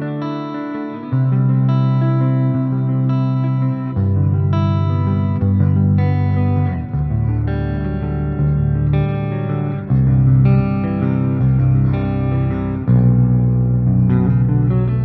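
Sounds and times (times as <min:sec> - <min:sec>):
clean electric guitar chords: 0:00.0 - 0:15.0.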